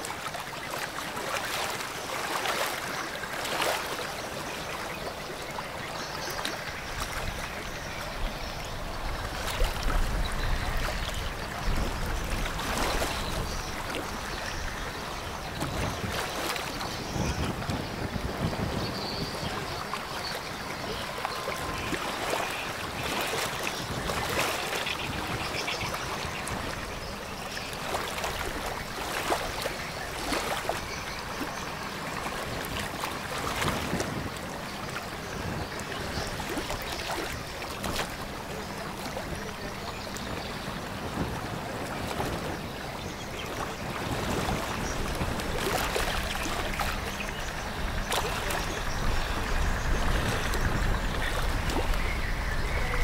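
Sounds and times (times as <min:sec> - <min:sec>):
water rushing and splashing: 0:00.0 - 0:53.0
low boat engine hum: 0:00.3 - 0:53.0.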